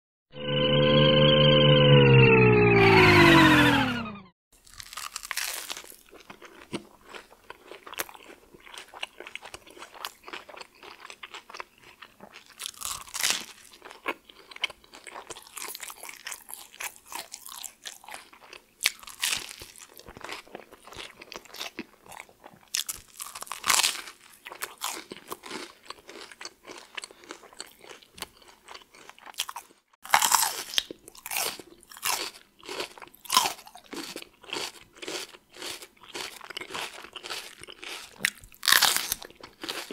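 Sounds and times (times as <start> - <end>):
person chewing food: 4.6 - 39.9.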